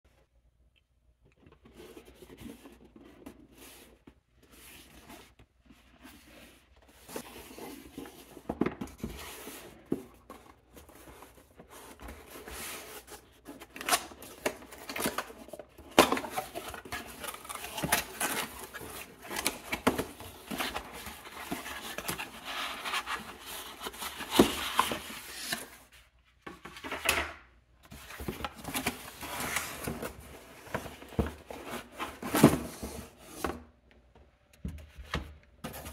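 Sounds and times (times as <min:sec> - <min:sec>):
cardboard rustling and scraping: 0:01.5 - 0:27.1, 0:27.8 - 0:33.8, 0:35.0 - 0:35.9.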